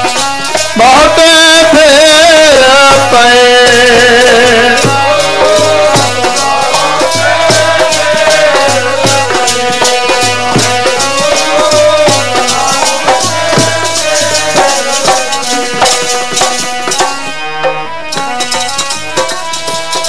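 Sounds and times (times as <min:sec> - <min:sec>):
harmonium melody: 0:00.0 - 0:20.0
jingling percussion: 0:00.0 - 0:20.0
steady drum beat: 0:00.0 - 0:20.0.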